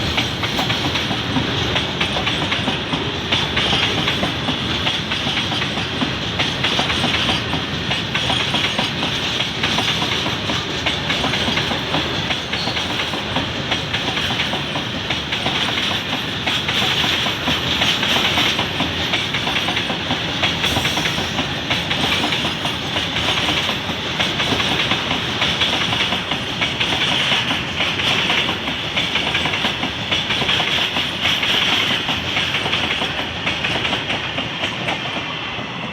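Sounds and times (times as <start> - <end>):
train running noise: 0.0 - 35.9
train wheels clattering on rails: 0.0 - 35.9.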